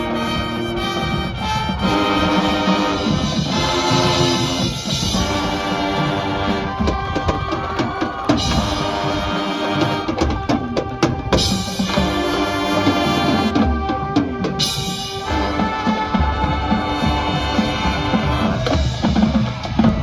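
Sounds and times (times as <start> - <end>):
brass and wind chords: 0.0 - 20.0
drum-line hits: 0.0 - 20.0.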